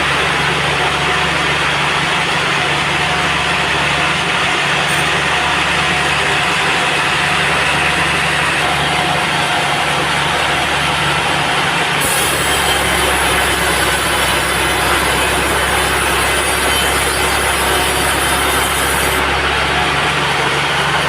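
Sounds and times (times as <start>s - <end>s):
sawmill machinery droning: 0.0s - 21.0s.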